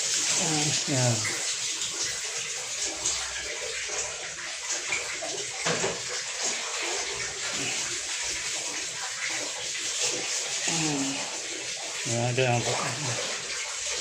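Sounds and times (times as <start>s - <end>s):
water running from a tap: 0.0s - 14.0s.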